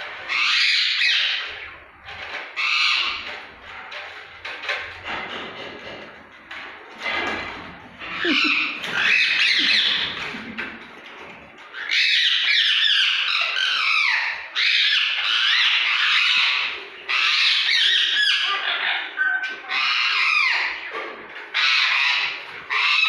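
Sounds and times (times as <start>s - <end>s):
parrots squawking: 0.0s - 5.4s, 8.0s - 10.8s, 11.7s - 23.0s.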